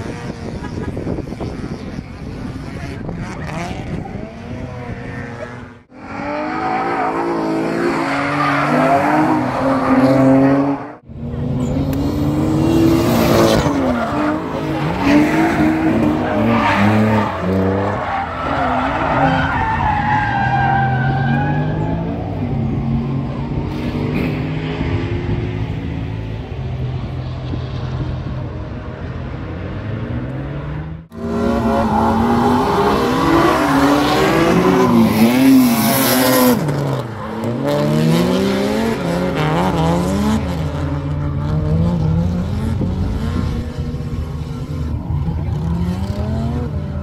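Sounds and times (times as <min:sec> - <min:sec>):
race car engines revving: 0:00.0 - 0:47.0.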